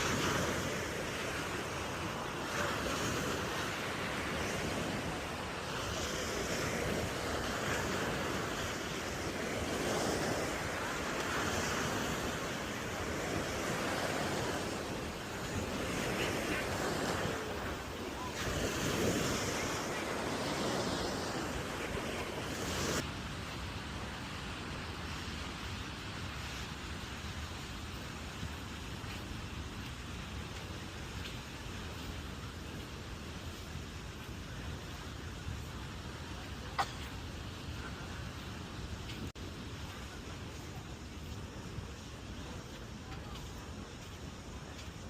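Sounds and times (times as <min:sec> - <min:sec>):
ocean surf washing onto beach: 0:00.0 - 0:45.0
wind on microphone: 0:00.0 - 0:45.0.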